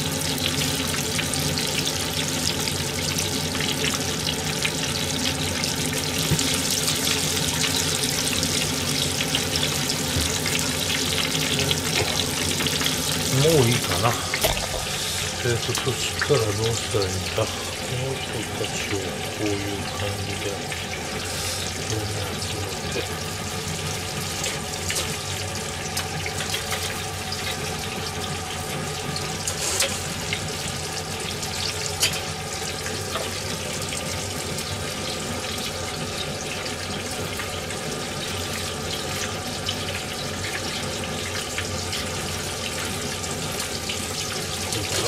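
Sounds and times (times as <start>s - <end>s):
food deep-frying in oil: 0.0s - 45.0s
oil popping: 0.2s - 45.0s.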